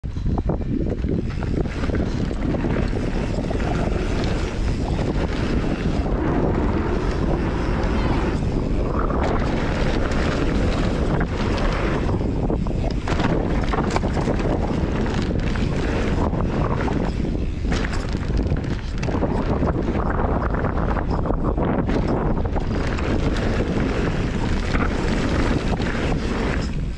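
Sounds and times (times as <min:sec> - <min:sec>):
bike clicks and rattles: 0:00.0 - 0:26.9
wind rushing over microphone: 0:00.0 - 0:26.9
tyres rolling on gravel: 0:00.8 - 0:26.9.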